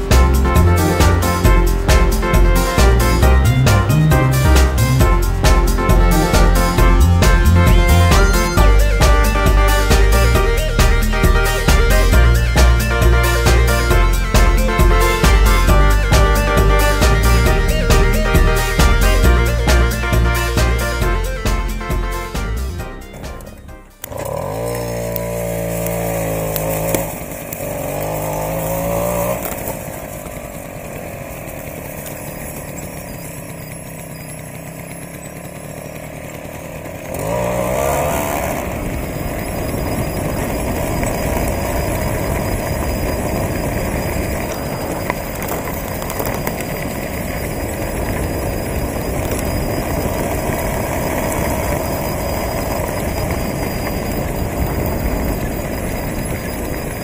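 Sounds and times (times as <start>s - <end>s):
moped engine accelerating: 0.0s - 57.0s
rushing riding noise: 0.0s - 57.0s.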